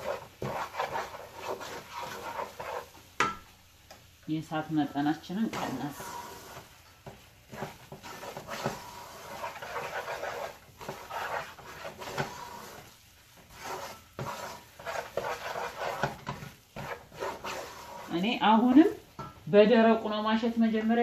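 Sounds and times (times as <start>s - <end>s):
wooden spoon scraping a pot: 0.0s - 3.1s, 5.4s - 19.3s.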